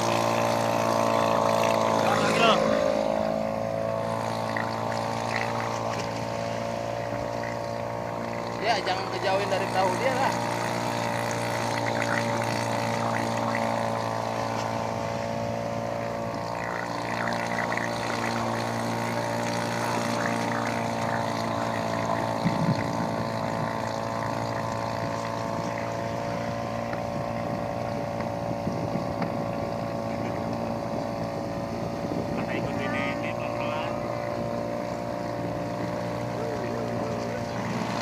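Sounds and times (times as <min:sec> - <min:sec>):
electric boat motor whining: 0:00.0 - 0:38.0.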